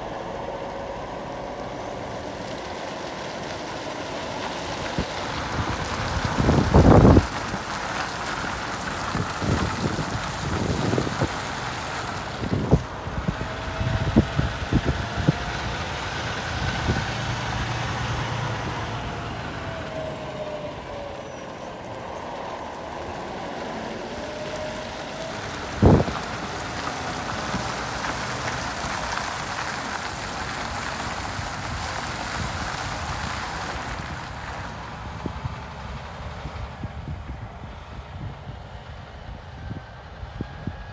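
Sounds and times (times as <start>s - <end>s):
tyres rolling: 0.0s - 35.2s
diesel truck engine: 0.0s - 40.9s.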